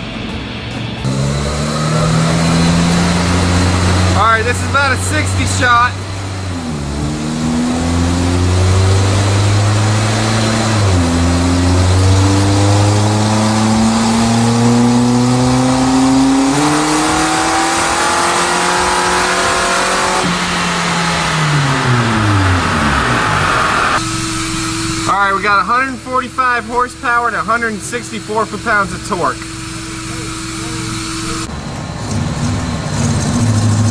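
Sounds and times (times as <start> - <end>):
car engine revving on dyno: 0.8 - 33.9.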